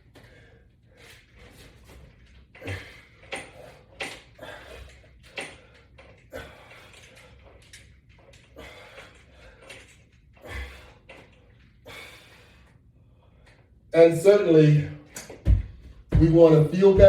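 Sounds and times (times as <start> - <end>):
resistance bands rustling and scraping: 0.0 - 17.0.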